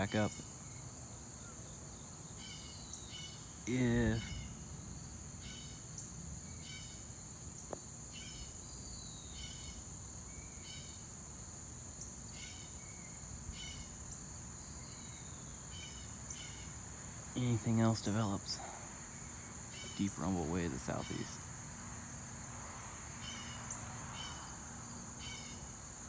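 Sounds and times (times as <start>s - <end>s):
downward-sliding insect calls: 0.0s - 11.1s, 12.0s - 22.4s, 23.1s - 26.0s
faint outdoor background noise: 0.0s - 26.0s
short insect chirping call: 0.0s - 26.0s.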